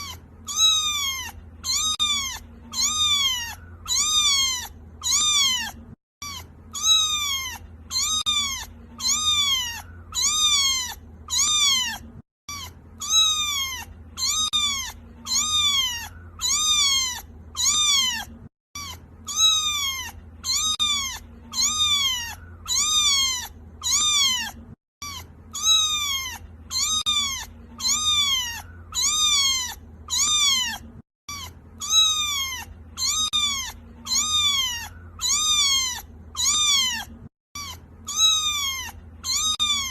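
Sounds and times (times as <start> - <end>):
kitten meowing: 0.0 - 39.9.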